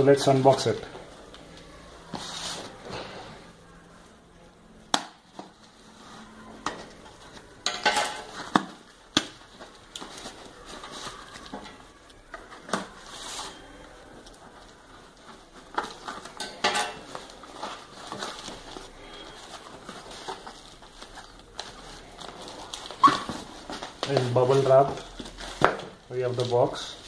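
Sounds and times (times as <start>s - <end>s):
packaging rustling and scraping: 0.0s - 4.0s, 5.3s - 27.0s.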